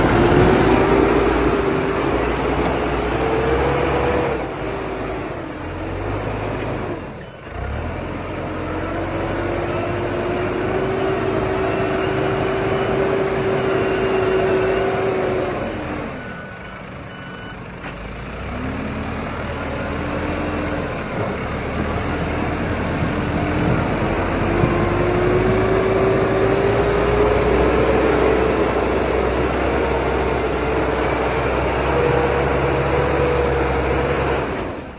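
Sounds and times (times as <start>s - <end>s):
diesel engine revving: 0.0s - 34.9s.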